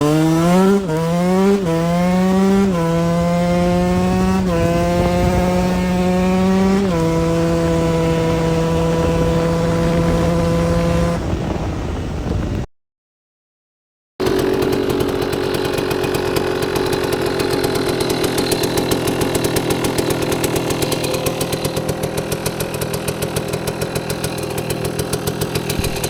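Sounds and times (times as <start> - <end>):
dirt bike engine accelerating: 0.0 - 12.7, 14.2 - 26.0.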